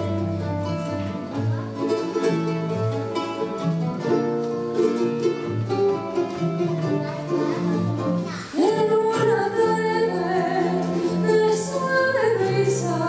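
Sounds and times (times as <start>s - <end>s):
acoustic guitar: 0.0s - 13.0s
high-pitched plucked string instrument: 0.0s - 13.0s.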